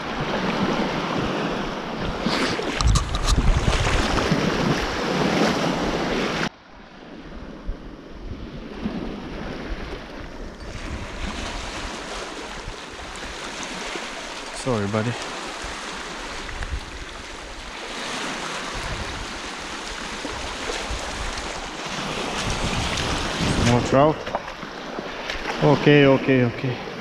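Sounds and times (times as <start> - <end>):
sea water lapping: 0.0 - 7.6, 8.3 - 27.0
wind buffeting microphone: 0.0 - 26.5
small waves on shore: 0.0 - 27.0.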